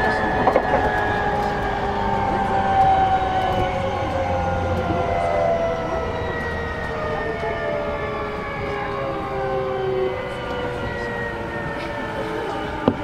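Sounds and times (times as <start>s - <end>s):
train motors whining: 0.0s - 13.0s
wheels rumbling on rail: 0.0s - 13.0s.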